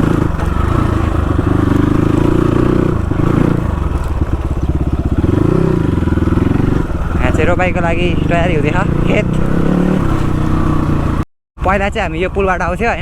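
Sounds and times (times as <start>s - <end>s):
motorcycle engine revving: 0.0s - 11.3s.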